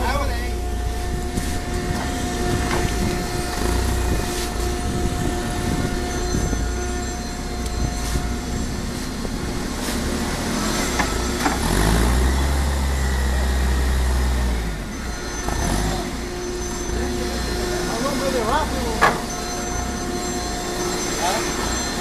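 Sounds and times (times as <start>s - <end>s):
baler machinery humming: 0.0s - 22.0s
deep machine drone: 0.0s - 22.0s.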